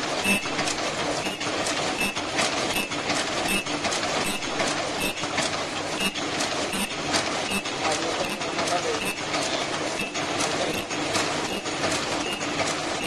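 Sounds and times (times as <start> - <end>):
machine mechanical clatter: 0.0 - 13.0.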